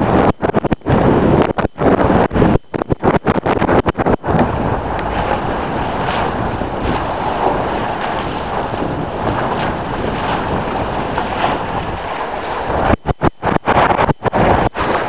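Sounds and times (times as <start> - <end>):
water washing along hull: 0.0 - 15.0
wind on microphone: 0.0 - 15.0.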